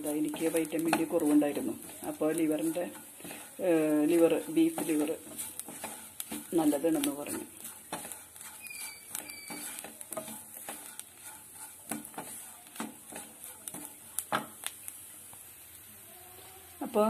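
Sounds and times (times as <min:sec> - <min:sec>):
wooden spatula scraping pan: 0:00.0 - 0:14.6
frying sizzle: 0:00.0 - 0:17.0.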